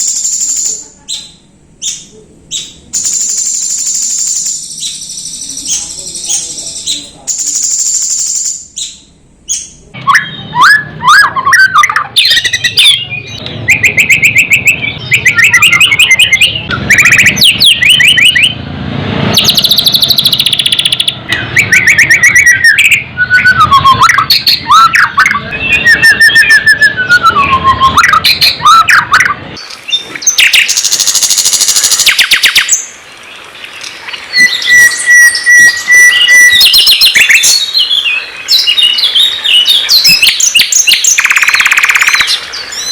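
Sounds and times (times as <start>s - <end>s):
harsh bird chattering: 0.0s - 18.6s, 19.4s - 32.9s, 34.3s - 42.9s
songbird trills and whistles: 0.0s - 18.6s, 19.4s - 32.9s, 34.0s - 42.9s.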